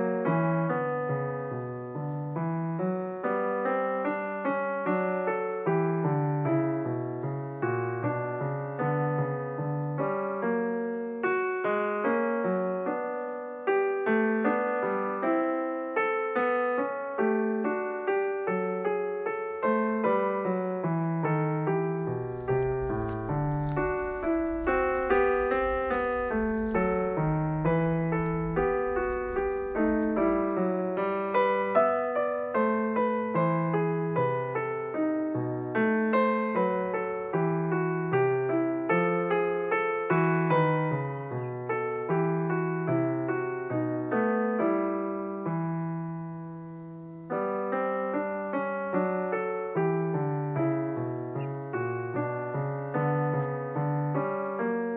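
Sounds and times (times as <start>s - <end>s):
gentle solo piano music: 0.0s - 54.9s.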